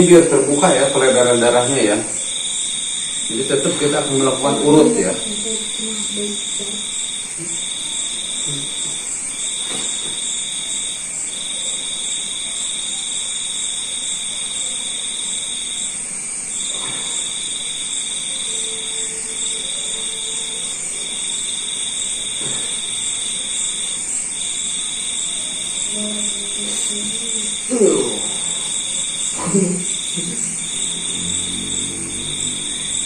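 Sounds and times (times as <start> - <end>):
insects chirping chorus: 0.0 - 33.0
lower-pitched insect trill: 0.0 - 33.0.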